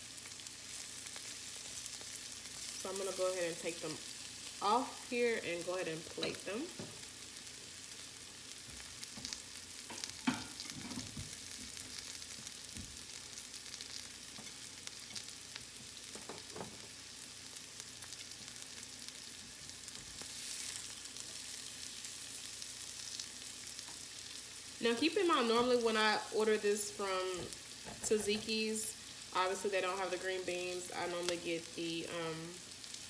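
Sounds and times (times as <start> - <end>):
fish sizzling in frying pan: 0.0 - 33.0.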